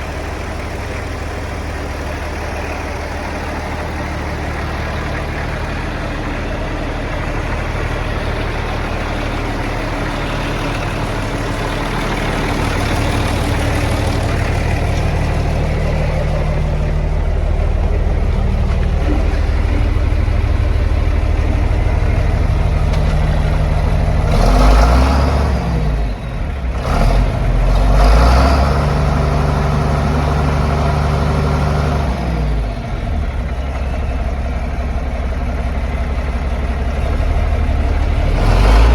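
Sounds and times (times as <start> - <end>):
diesel tractor engine idling and revving: 0.0 - 38.9.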